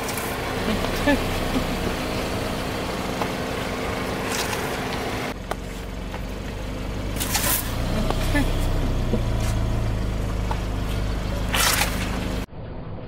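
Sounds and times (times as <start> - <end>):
car engine humming: 0.0 - 12.5
low drone: 0.0 - 13.0.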